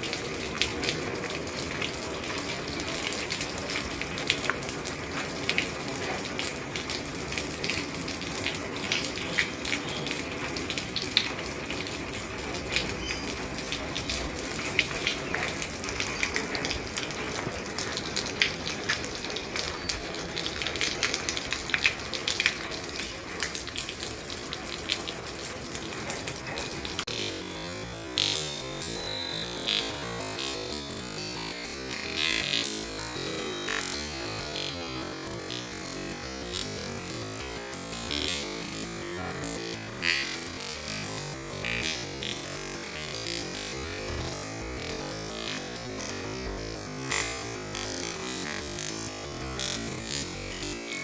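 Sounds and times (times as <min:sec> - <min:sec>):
rain on a roof: 0:00.0 - 0:51.0.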